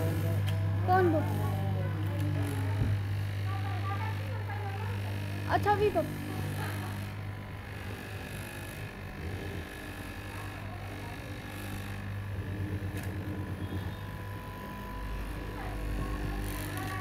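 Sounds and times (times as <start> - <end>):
fabric cutting machine humming: 0.0 - 17.0.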